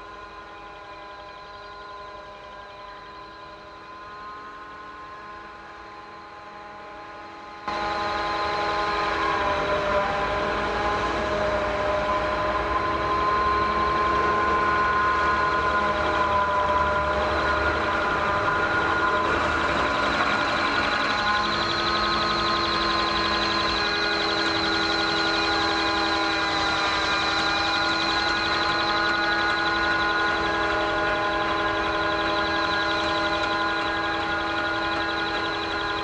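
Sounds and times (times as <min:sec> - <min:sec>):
drone propellers whining: 0:00.0 - 0:36.0.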